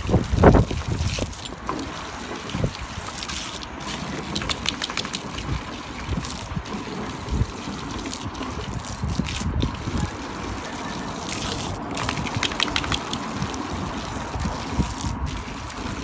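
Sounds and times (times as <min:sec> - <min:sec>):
hose water jet hissing: 0:00.0 - 0:16.0
water splashing: 0:00.0 - 0:16.0.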